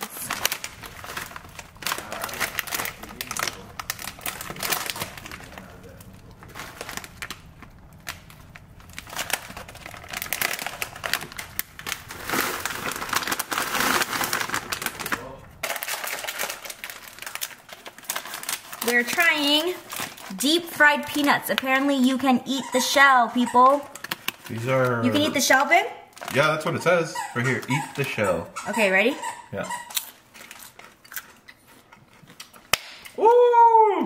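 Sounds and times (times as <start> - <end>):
plastic bags crinkling: 0.0 - 28.4, 29.7 - 32.7
fried peppers crackling: 0.0 - 33.2.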